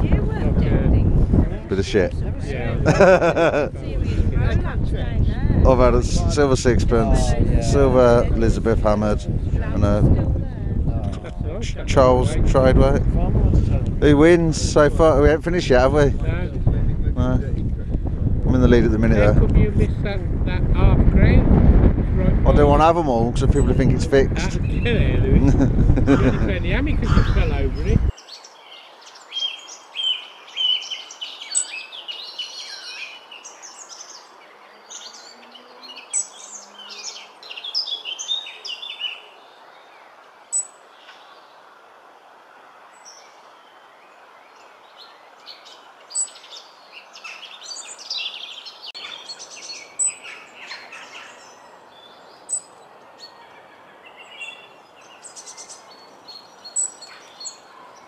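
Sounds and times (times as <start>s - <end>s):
birds singing and chirping: 0.0s - 16.8s, 22.8s - 41.7s, 42.8s - 58.0s.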